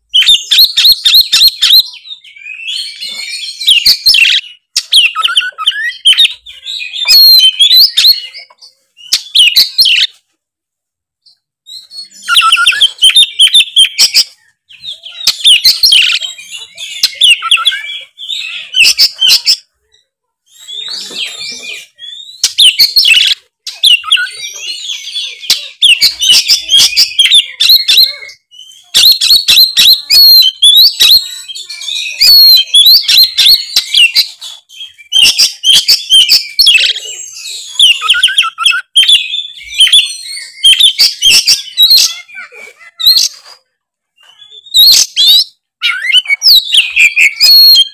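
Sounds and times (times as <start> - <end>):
bird singing whistles and chatter: 0.0 - 10.2, 11.3 - 47.9.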